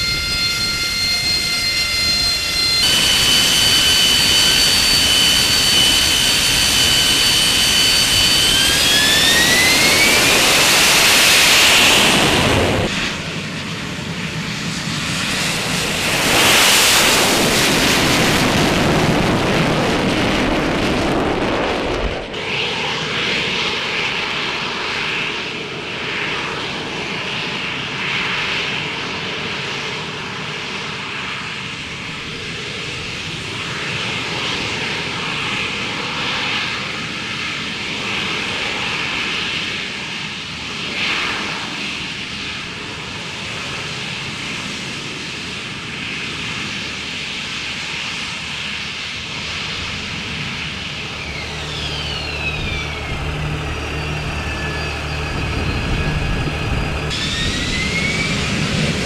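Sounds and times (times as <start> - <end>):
jet engine roaring with high hiss: 0.0 - 59.0.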